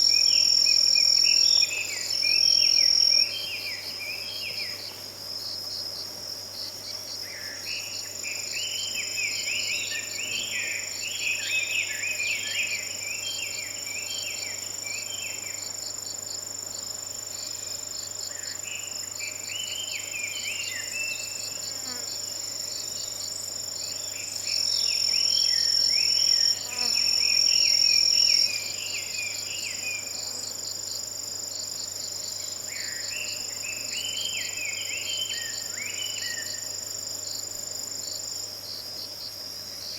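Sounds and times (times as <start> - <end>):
insects trilling and chirping: 0.0 - 39.9.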